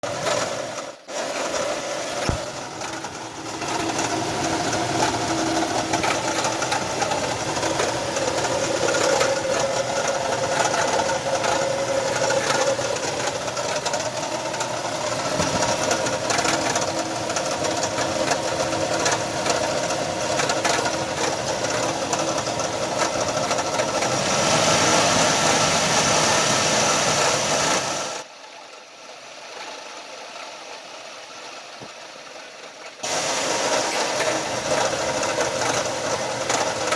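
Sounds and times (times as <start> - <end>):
engine whine and rattle: 0.0 - 36.9.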